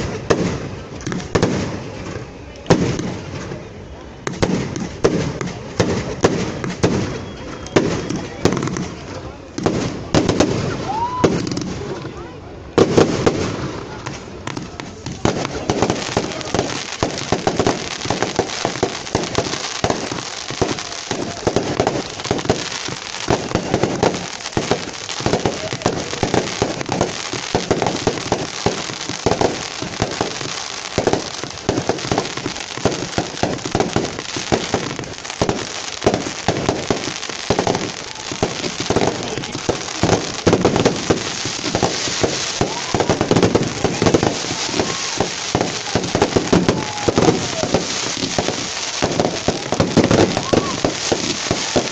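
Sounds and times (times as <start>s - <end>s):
bonfire crackling: 0.0s - 51.9s.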